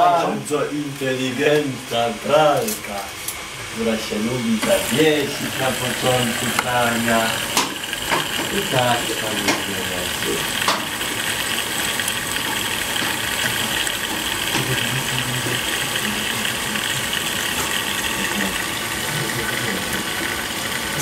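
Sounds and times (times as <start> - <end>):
water running into washing machine: 0.0 - 21.0.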